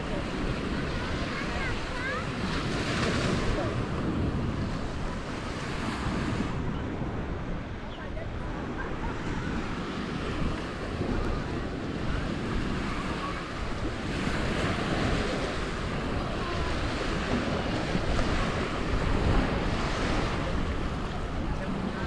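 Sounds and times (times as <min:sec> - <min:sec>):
sea waves washing on beach: 0:00.0 - 0:22.0
wind buffeting microphone: 0:00.0 - 0:22.0.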